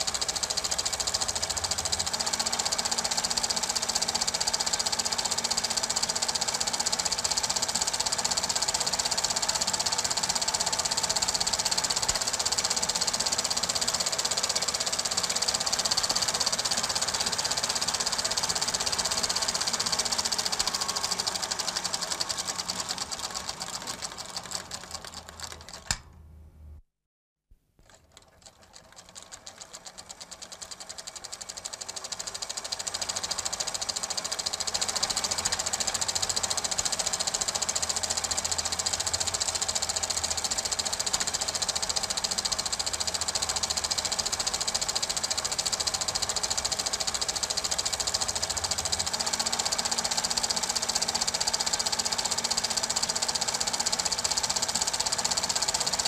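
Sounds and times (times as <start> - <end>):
film projector clatter: 0.0 - 26.1, 27.8 - 56.0.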